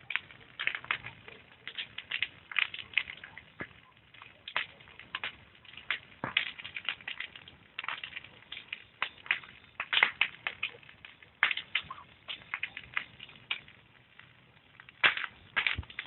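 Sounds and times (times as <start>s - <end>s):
sharp pops of fire: 0.0s - 16.0s
wood campfire crackling: 0.0s - 16.0s.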